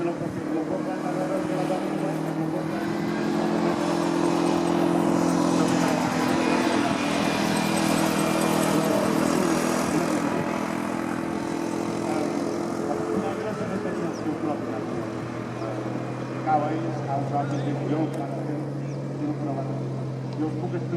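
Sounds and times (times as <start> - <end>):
propeller plane droning: 0.0 - 20.9.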